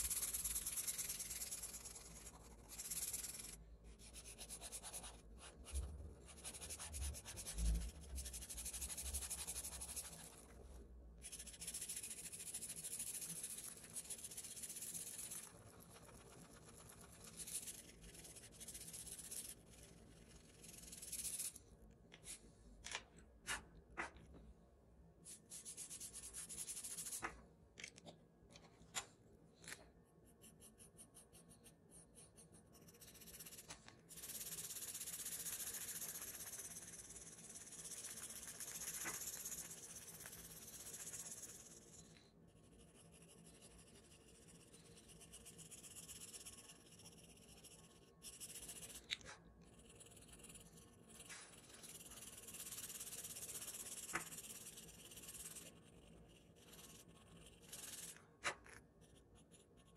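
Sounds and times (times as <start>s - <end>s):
pencil scratching on paper: 0.0s - 21.6s, 25.2s - 27.4s, 30.2s - 59.9s.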